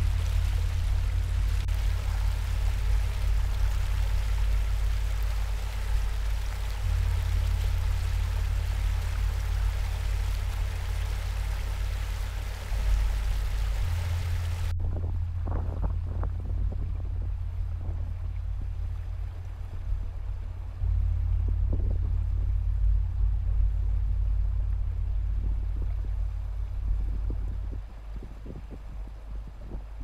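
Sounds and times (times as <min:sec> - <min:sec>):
water lapping: 0:00.0 - 0:14.7, 0:15.4 - 0:20.9, 0:24.8 - 0:30.0
deep low rumble: 0:00.0 - 0:30.0
seawater splashing over breakwater: 0:00.0 - 0:30.0.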